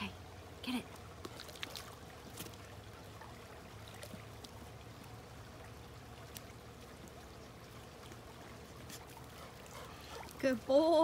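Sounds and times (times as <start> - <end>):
trickle of pool water: 0.0 - 11.0.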